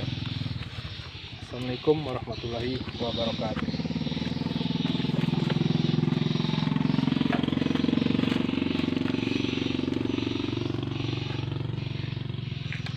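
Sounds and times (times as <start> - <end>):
small motorcycle engine running: 0.0 - 12.9.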